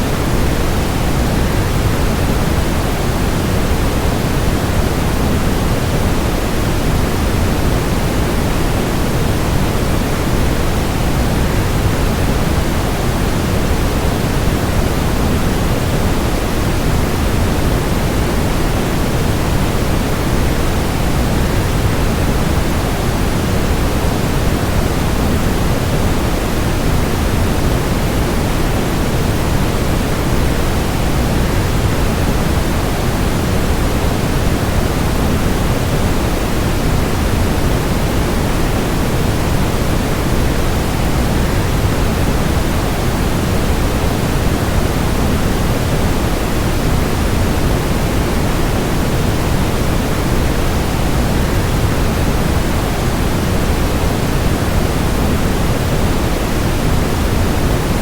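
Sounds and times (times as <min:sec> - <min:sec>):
waterfall with white noise: 0:00.0 - 0:58.0.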